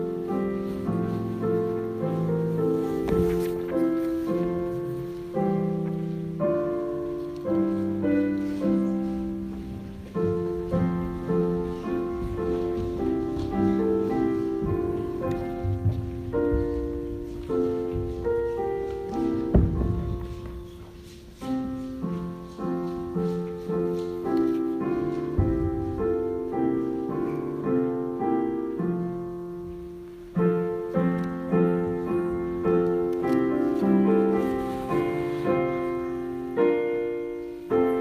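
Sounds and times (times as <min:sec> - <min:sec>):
piano playing hymn chords: 0:00.0 - 0:38.0.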